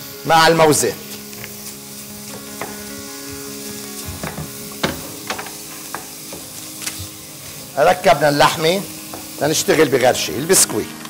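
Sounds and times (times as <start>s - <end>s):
meat and vegetables sizzling in pot: 0.0s - 11.0s.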